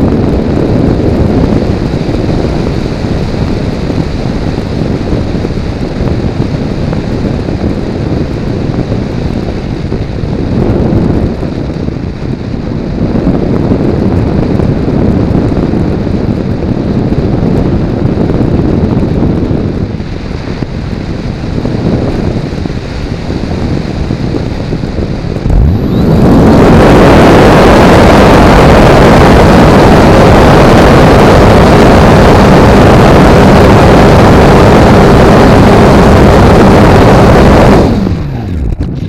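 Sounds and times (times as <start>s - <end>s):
wind rushing: 0.0s - 39.0s.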